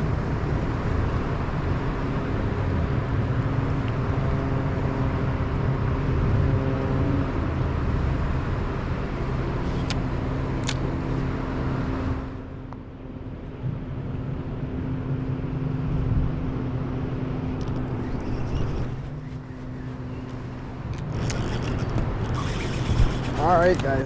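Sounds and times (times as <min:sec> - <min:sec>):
low motor hum: 0:00.0 - 0:24.0.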